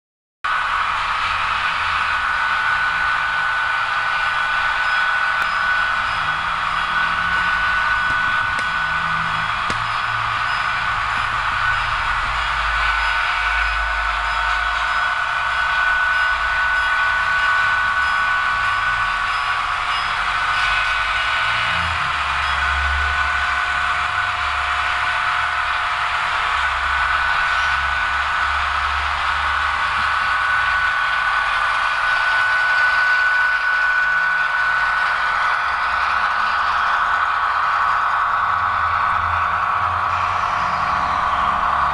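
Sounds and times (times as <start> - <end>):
high whine: 0.5 - 41.9
model train running on track: 0.5 - 41.9.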